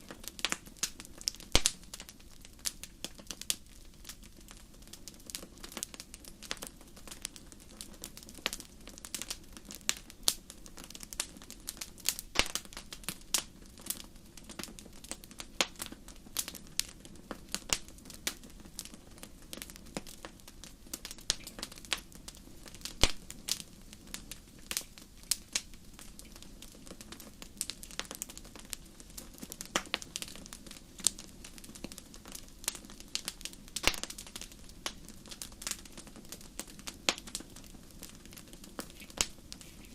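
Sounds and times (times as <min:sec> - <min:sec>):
wood fire crackling and popping: 0:00.0 - 0:39.9
low rush of flame: 0:00.1 - 0:39.9.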